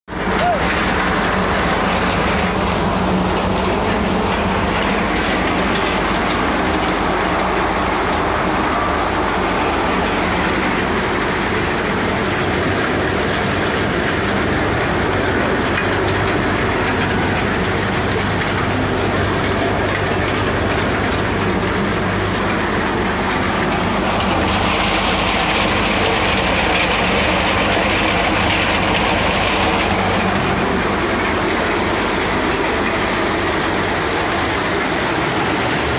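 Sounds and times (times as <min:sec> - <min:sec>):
glass bottle crushing machine rattling: 0:00.2 - 0:35.9.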